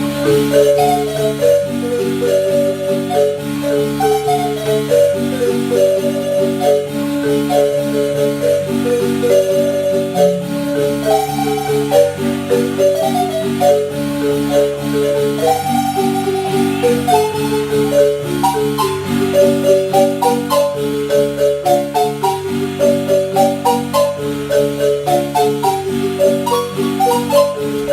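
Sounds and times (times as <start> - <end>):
marimba music: 0.0 - 27.9.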